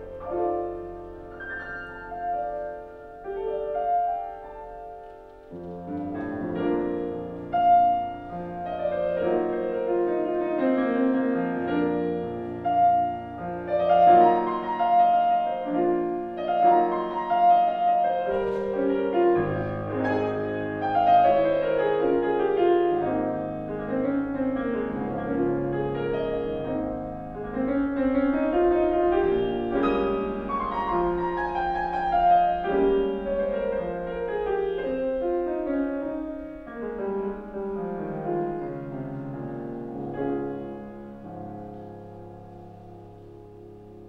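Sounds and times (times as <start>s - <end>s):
solo grand piano: 0.0s - 44.0s.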